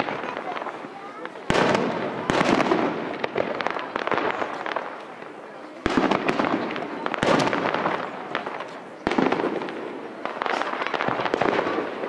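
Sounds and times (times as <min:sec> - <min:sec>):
crackling pops of fireworks: 0:00.0 - 0:12.0
fireworks bangs: 0:00.0 - 0:12.0.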